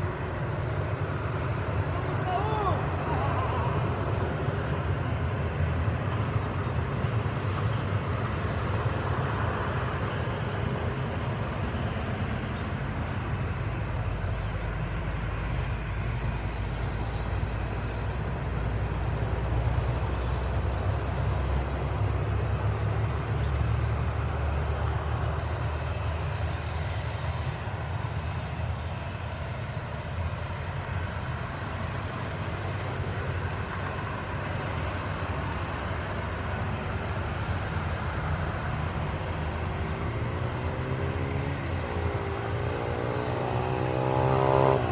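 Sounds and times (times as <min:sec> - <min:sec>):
jet engines running: 0:00.0 - 0:40.8.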